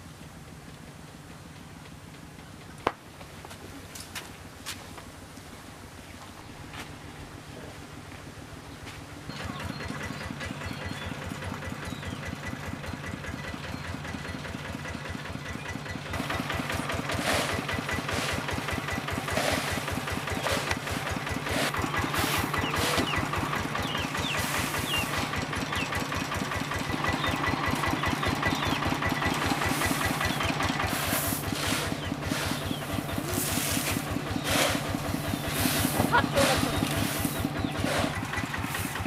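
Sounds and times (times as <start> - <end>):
tractor engine idling: 6.5 - 39.0.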